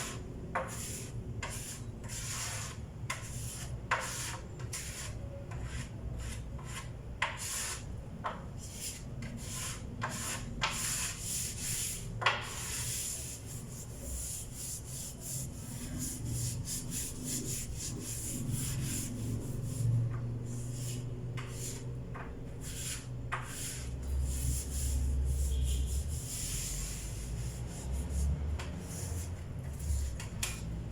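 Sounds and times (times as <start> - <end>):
hand sanding wood: 0.0 - 7.9, 8.6 - 21.9, 22.6 - 30.2.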